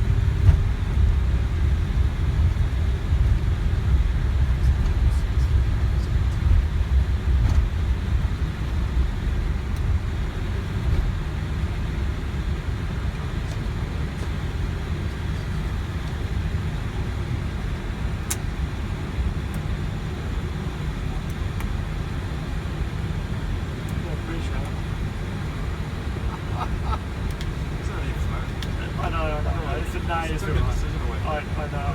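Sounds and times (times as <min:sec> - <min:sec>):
airliner cockpit low rumble: 0:00.0 - 0:31.9.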